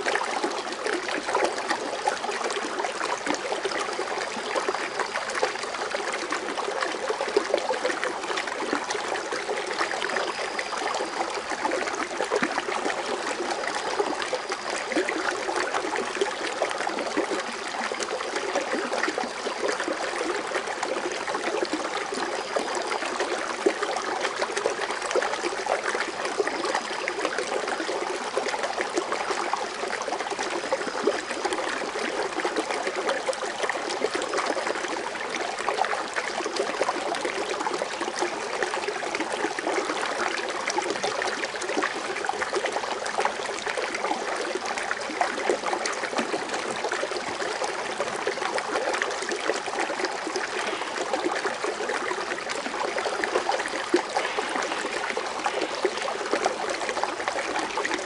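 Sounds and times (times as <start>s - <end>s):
water fountain splashing: 3.8s - 58.0s.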